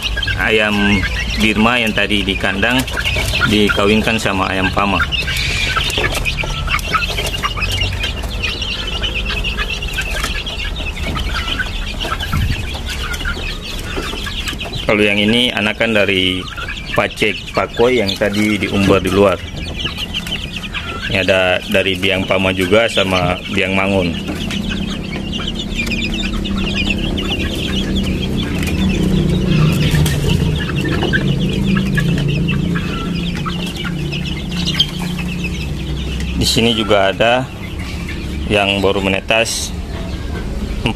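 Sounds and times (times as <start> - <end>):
steady low hum: 0.0 - 40.9
young chicks peeping: 0.0 - 40.9.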